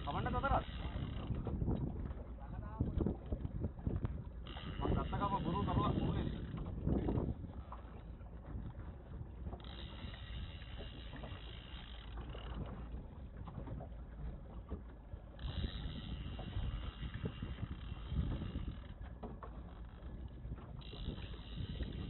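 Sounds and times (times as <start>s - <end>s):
outboard motor running: 0.0s - 22.0s
wind and water noise: 0.0s - 22.0s.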